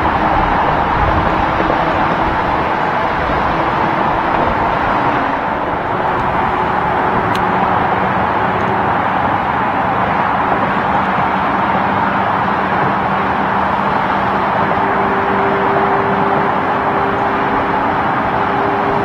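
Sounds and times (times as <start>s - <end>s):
highway traffic: 0.0s - 19.0s
steady low engine hum: 0.0s - 19.0s.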